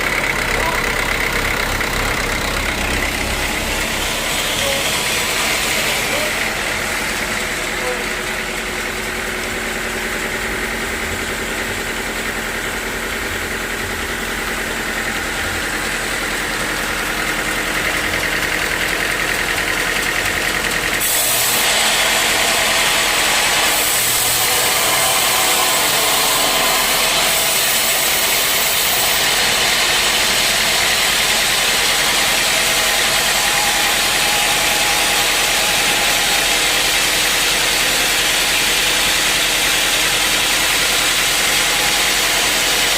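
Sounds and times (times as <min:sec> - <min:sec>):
sawmill machinery humming: 0:00.0 - 0:42.9.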